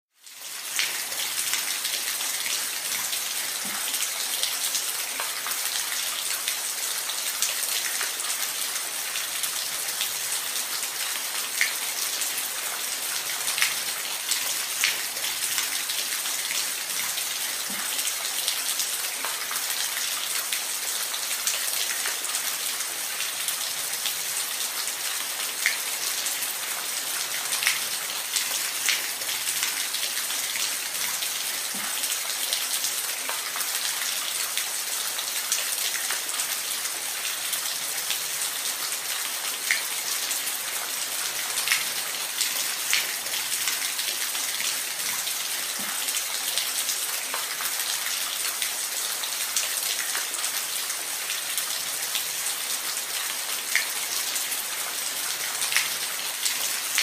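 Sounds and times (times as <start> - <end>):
water splashes and drips: 0.2 - 57.0.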